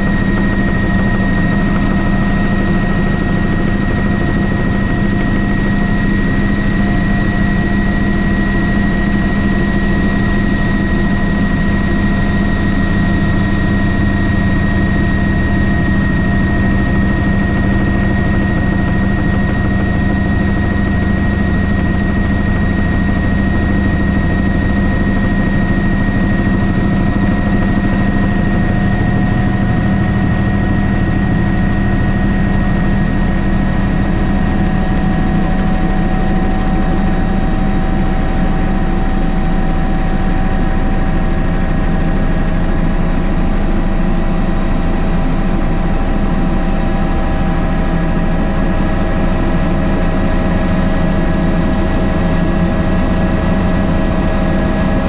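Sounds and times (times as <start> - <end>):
helicopter rotor and engine: 0.0 - 55.0
high-pitched whines: 0.0 - 55.0.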